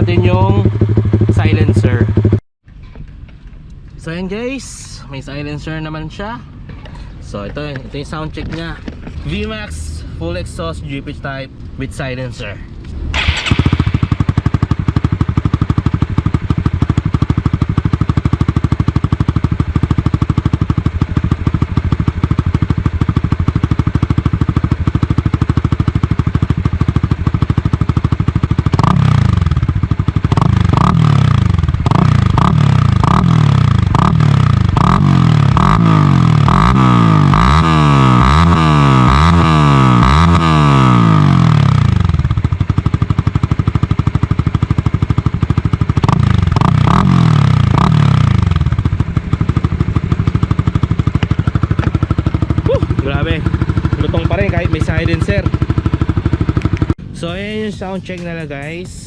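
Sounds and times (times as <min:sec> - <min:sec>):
motorcycle engine idling and revving: 0:00.0 - 0:02.4, 0:08.1 - 0:59.0.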